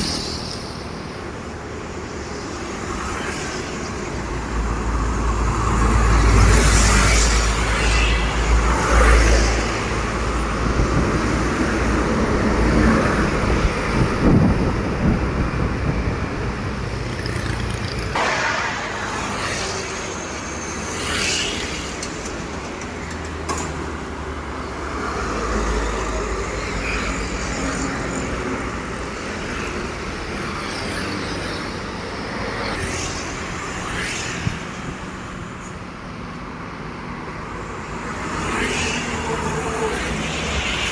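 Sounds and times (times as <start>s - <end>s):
road traffic passing close: 0.0s - 40.9s.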